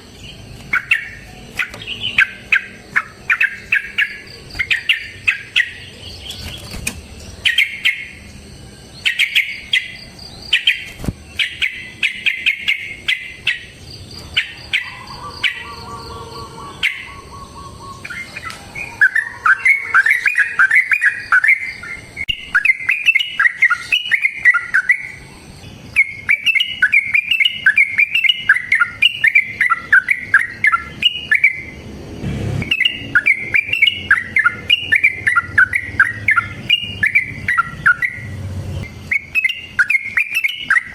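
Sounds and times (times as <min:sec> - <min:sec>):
bird warbling song: 0:00.0 - 0:31.9, 0:32.6 - 0:40.9.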